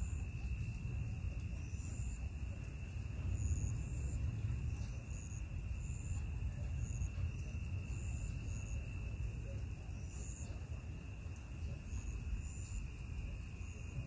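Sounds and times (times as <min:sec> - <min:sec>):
insects chirping: 0:00.0 - 0:14.0
steady high insect drone: 0:00.0 - 0:14.0.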